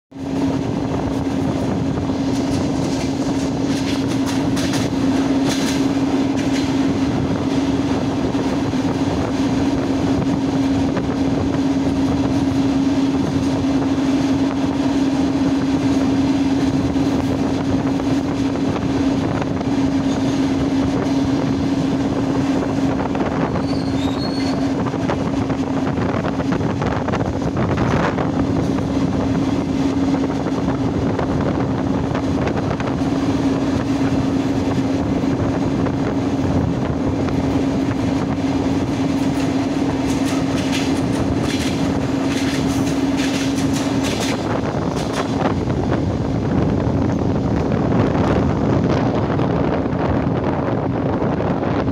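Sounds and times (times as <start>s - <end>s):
electric train running noise: 0.1s - 51.9s.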